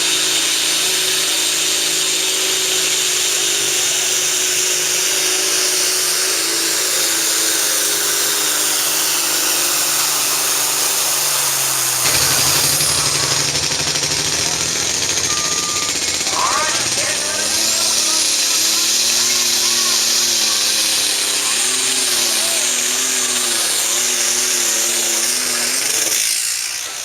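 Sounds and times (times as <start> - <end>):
tractor engine running hard: 0.0 - 27.0.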